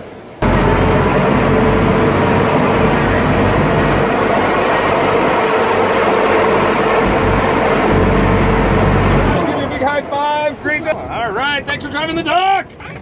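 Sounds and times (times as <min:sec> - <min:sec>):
wind and water rushing: 0:00.0 - 0:12.9
boat engine droning: 0:00.4 - 0:12.1.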